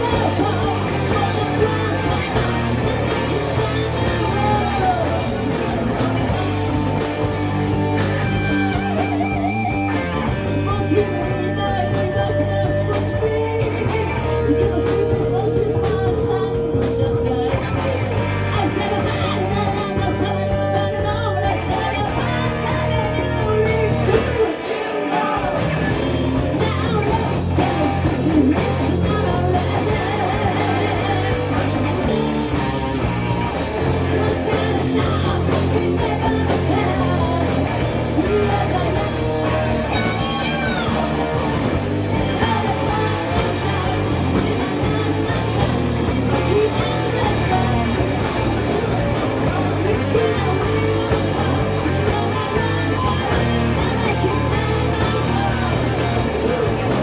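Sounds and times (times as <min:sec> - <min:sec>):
hard rock band with singing: 0:00.0 - 0:57.0.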